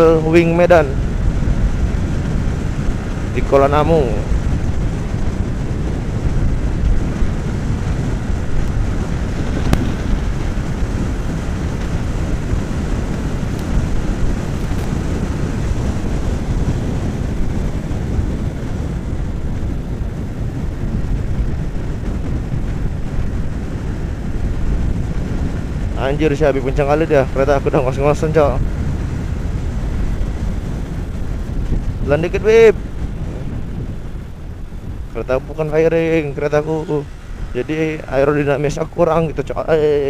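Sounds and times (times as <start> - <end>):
motorcycle engine rumbling: 0.0 - 40.0
wind rushing over microphone: 0.0 - 40.0.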